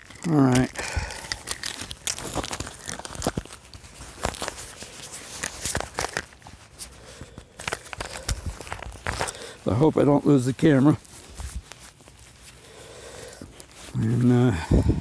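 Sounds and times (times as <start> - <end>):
fabric rustling on microphone: 1.6 - 7.0, 7.6 - 12.6, 13.4 - 15.0.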